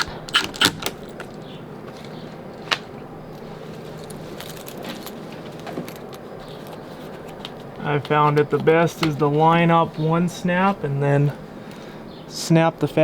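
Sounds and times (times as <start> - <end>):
low background hiss: 1.0 - 13.0.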